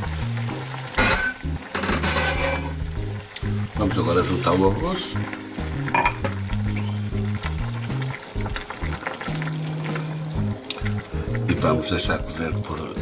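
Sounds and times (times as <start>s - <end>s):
broth boiling in a pot: 0.0s - 13.0s.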